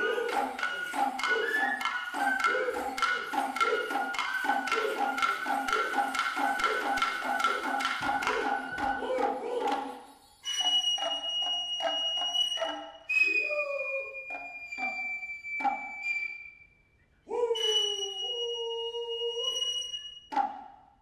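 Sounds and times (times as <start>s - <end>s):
shrill bamboo flute: 0.0s - 20.8s.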